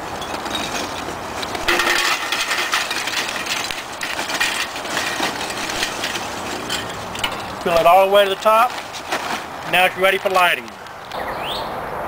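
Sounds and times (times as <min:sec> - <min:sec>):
charcoal clattering into metal chimney: 0:00.0 - 0:10.8.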